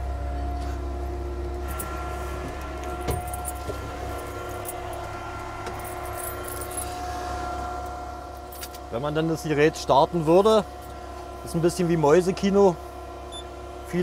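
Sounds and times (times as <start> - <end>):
hum of even tones: 0.0 - 14.0
low machine rumble: 0.0 - 14.0.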